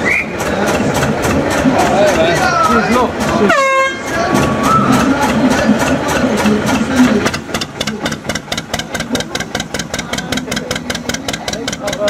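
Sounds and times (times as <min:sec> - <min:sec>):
steam locomotive exhaust beats: 0:00.0 - 0:12.0.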